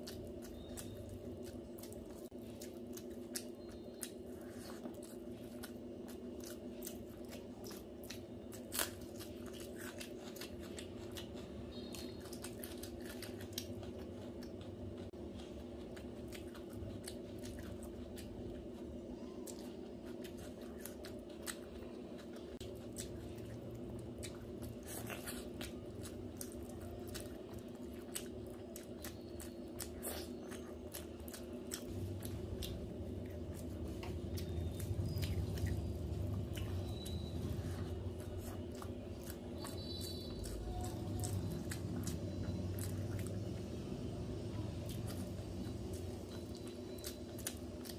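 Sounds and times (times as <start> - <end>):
person chewing: 0.0 - 47.9
steady low hum: 0.0 - 47.9.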